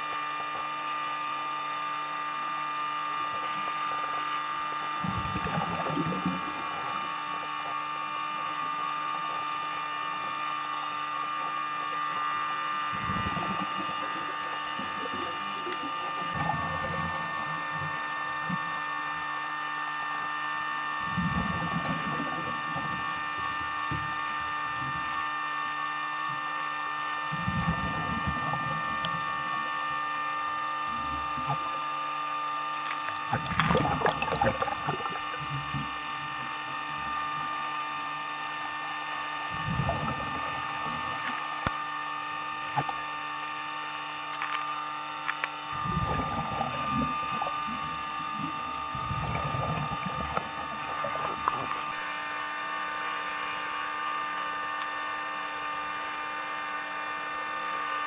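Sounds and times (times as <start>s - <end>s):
gurgling regulator exhaust bubbles: 0.0s - 19.6s, 20.8s - 56.2s
steady underwater hum: 0.0s - 58.0s.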